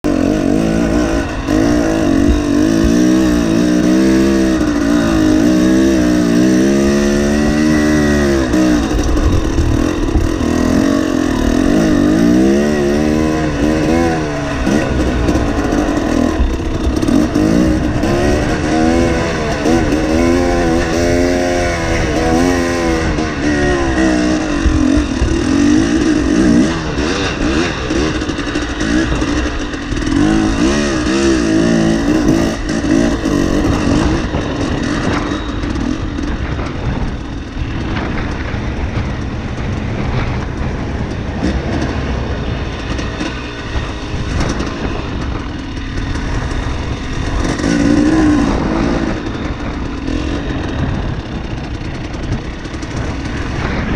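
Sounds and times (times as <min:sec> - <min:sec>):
dirt bike engine revving: 0:00.0 - 0:53.9
wind noise on microphone: 0:00.0 - 0:53.9.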